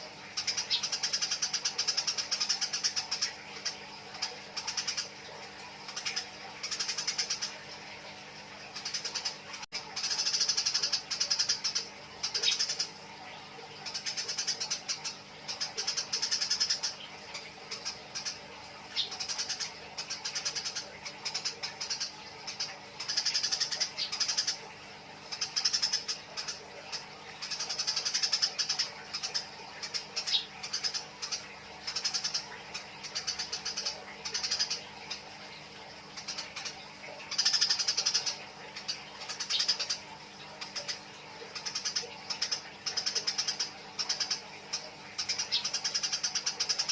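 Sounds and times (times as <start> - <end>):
sparrows harsh chattering chirps: 0.0 - 7.8, 8.7 - 24.7, 25.3 - 46.9.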